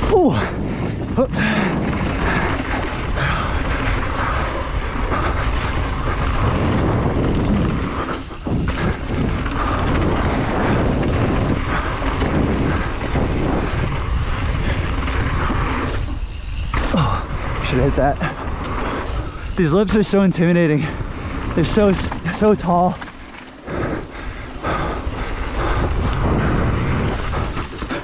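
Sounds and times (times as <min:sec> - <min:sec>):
bike tyre and trail noise: 0:00.0 - 0:28.0
wind rushing on microphone: 0:00.0 - 0:28.0.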